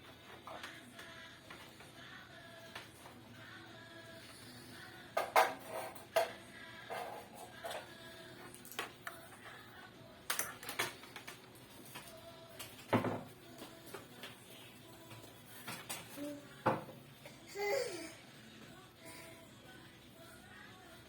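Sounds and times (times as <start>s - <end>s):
faint background music: 0.0s - 21.0s.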